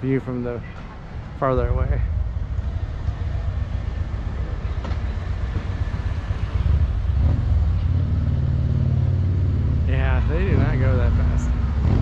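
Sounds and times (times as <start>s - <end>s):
road traffic passing: 0.0s - 12.0s
vehicle engine hum: 0.0s - 12.0s.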